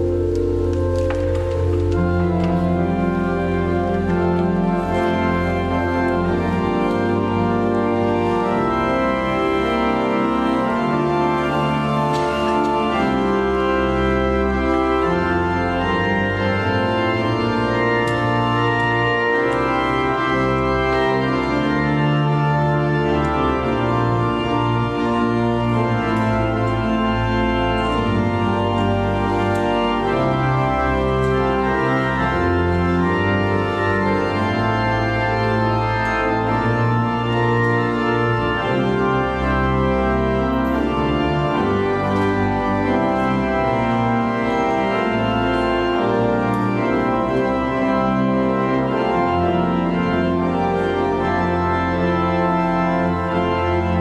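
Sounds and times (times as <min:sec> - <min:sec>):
church organ playing chords: 0:00.0 - 0:54.0.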